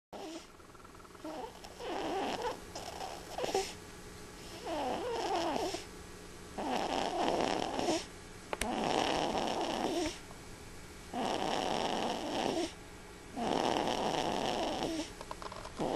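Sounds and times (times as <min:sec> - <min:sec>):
rough rattling snores: 0:00.2 - 0:03.8, 0:04.4 - 0:05.9, 0:06.6 - 0:10.2, 0:11.1 - 0:12.8, 0:13.4 - 0:15.9.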